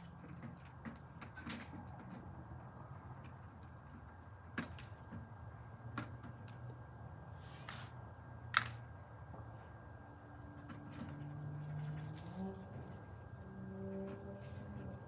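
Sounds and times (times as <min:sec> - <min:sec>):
low steady hum: 0:02.0 - 0:15.0.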